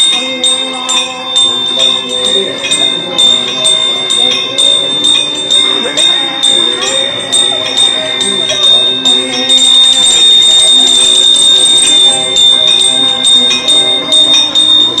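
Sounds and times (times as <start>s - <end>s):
steady high ringing tone: 0.0s - 15.0s
temple bell rung rapidly: 0.0s - 15.0s.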